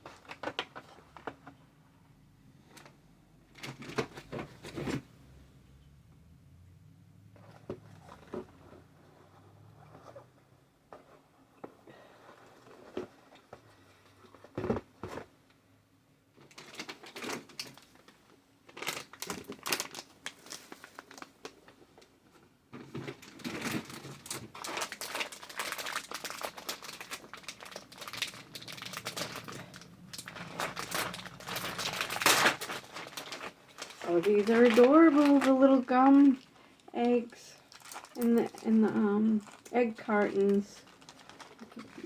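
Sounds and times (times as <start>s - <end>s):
crinkly packaging rustling: 0.0s - 1.8s, 2.6s - 5.2s, 7.3s - 15.6s, 16.3s - 42.0s.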